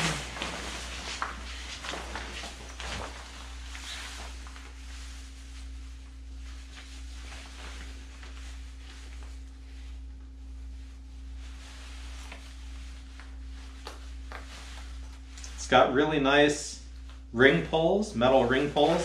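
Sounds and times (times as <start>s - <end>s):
fabric rustling: 0.0s - 15.8s, 18.0s - 19.0s
low electrical hum: 0.0s - 19.0s.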